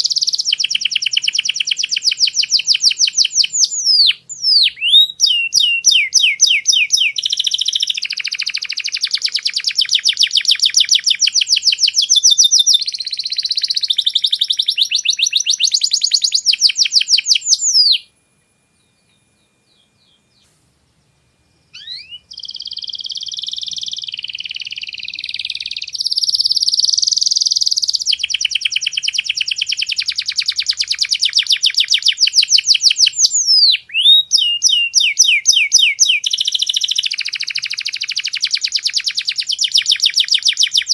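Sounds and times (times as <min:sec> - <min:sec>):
canary singing trills: 0:00.0 - 0:18.1, 0:18.7 - 0:40.9.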